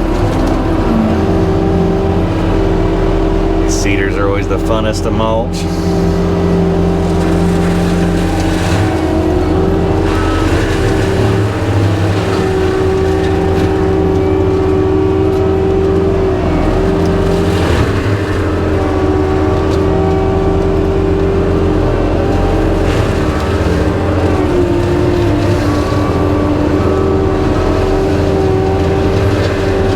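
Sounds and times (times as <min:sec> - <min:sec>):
diesel engine running hard: 0:00.0 - 0:29.9
mulcher grinding brush: 0:00.0 - 0:29.9.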